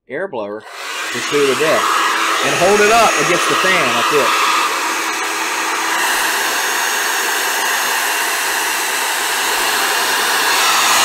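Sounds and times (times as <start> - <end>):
hair dryer running: 0.6 - 11.0.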